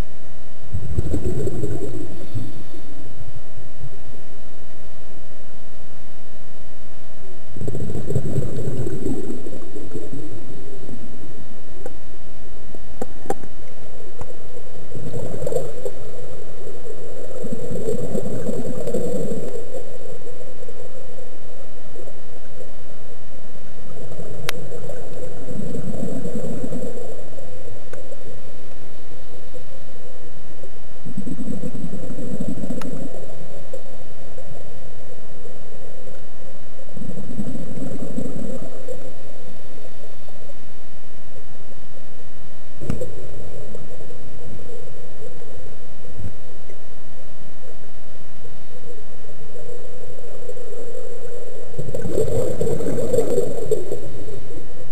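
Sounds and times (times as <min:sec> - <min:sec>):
faint steady hum: 0:00.0 - 0:54.9
underwater bubbles gurgling: 0:00.0 - 0:54.9.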